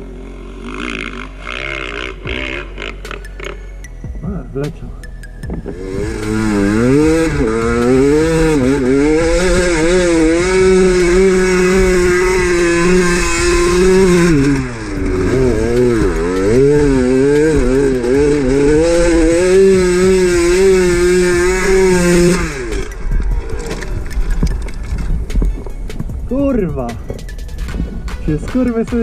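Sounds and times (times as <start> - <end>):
dirt bike engine revving: 0.0 - 3.9, 5.4 - 26.4.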